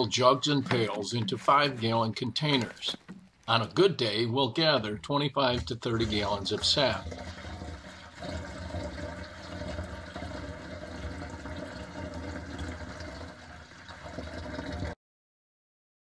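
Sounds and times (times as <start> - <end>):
liquid pouring into container: 0.0 - 3.9, 4.8 - 15.0.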